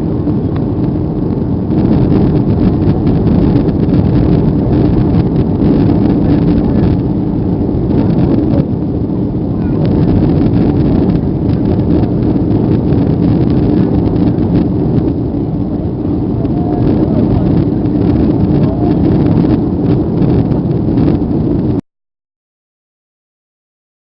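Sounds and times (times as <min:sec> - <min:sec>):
airplane cabin engine rumble: 0:00.0 - 0:21.8.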